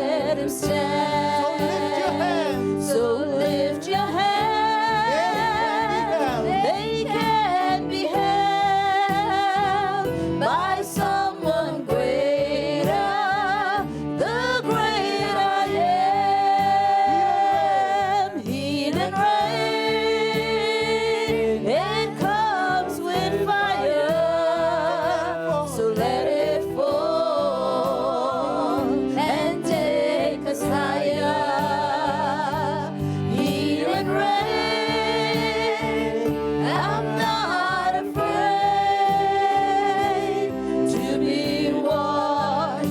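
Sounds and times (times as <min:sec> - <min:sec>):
gospel voices singing: 0:00.0 - 0:42.9
music accompaniment with steady beat: 0:00.0 - 0:42.9.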